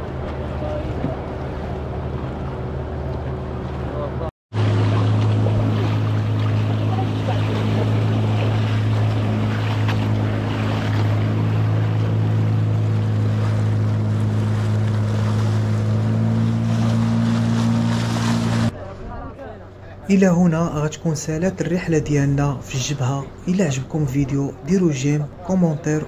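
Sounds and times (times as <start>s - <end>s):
boat motor running: 0.0s - 26.0s
water splashing along hull: 0.0s - 26.0s.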